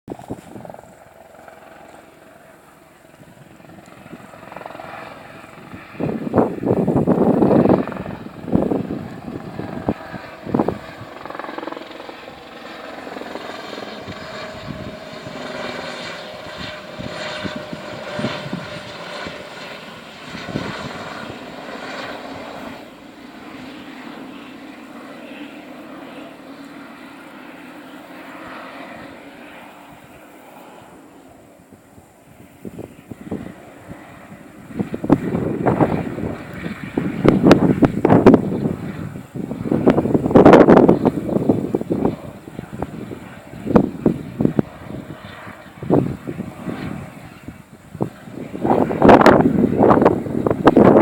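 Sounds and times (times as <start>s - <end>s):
helicopter flying past: 0.1s - 51.0s.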